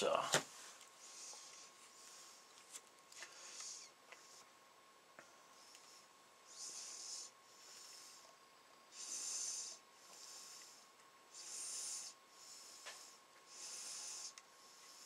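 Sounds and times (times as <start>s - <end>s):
man breathing: 0.5s - 4.6s, 5.2s - 15.0s.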